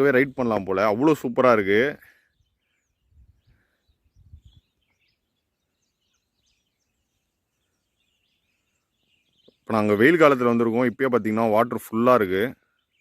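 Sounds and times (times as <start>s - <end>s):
faint distant birdsong: 0.0s - 13.0s.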